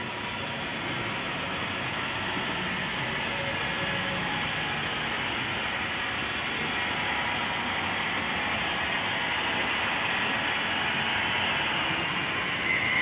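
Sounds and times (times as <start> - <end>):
train motor hum: 0.0 - 13.0.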